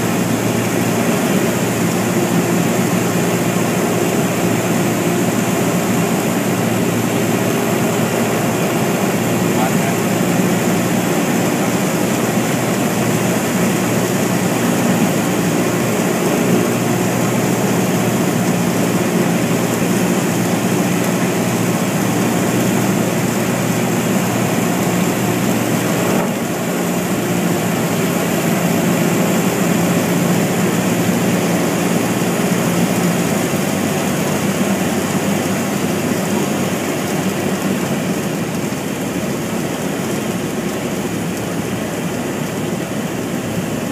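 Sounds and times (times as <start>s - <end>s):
airplane engine and propeller droning: 0.0s - 43.9s.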